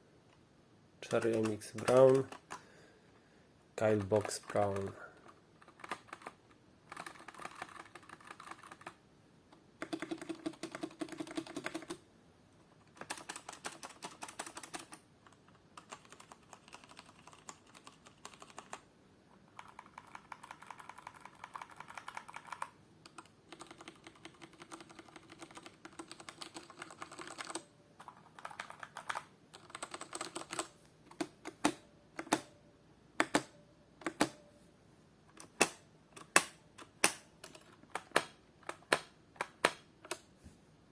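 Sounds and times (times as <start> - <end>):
mechanical keyboard typing: 1.0 - 2.6, 3.8 - 9.0, 9.8 - 12.0, 12.8 - 18.8, 19.5 - 32.5, 35.4 - 40.2.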